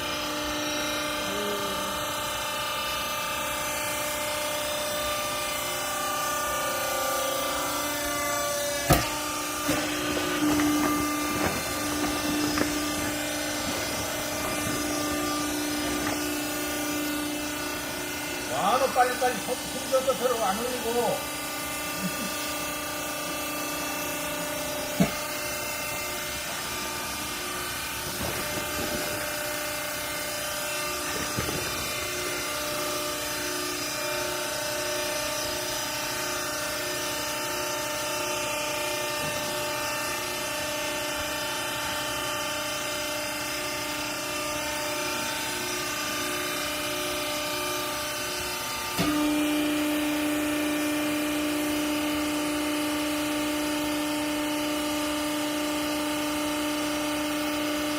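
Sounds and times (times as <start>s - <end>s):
electric motor and hydraulic pump humming: 0.0s - 57.9s.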